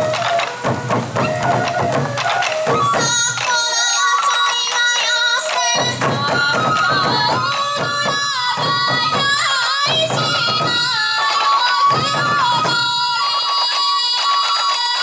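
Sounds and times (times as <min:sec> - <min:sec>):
bamboo flute melody: 0:00.0 - 0:15.0
taiko drums beating: 0:00.0 - 0:15.0
voices singing: 0:02.7 - 0:15.0.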